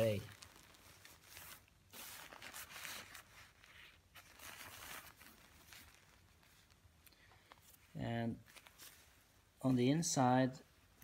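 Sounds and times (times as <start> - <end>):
nylon quilt rustling: 0.0 - 11.0.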